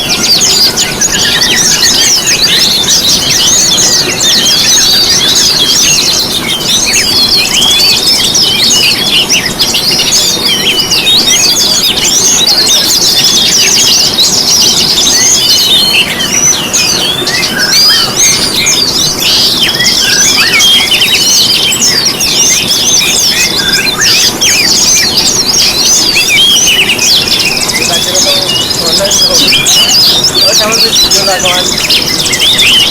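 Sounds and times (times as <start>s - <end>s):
songbirds twittering: 0.0s - 32.9s.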